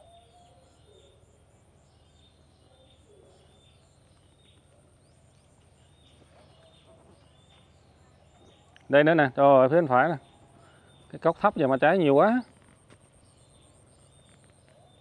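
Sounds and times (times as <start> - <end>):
bird chirping: 0.0 - 15.0
faint high-pitched whine: 0.0 - 15.0.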